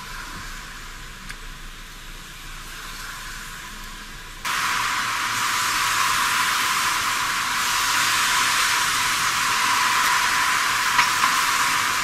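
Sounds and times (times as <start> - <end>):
car tyres on wet asphalt: 0.0 - 12.0
rain: 0.0 - 12.0.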